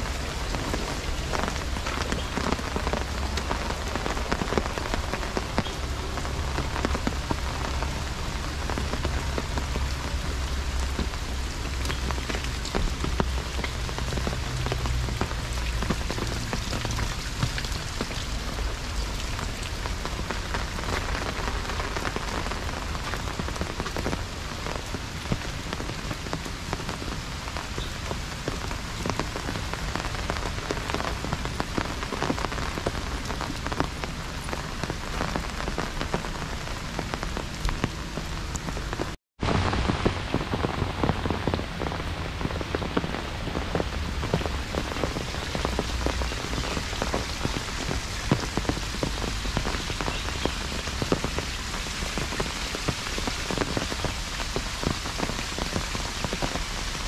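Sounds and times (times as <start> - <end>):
heavy rain on umbrella and leaves: 0.0 - 57.0.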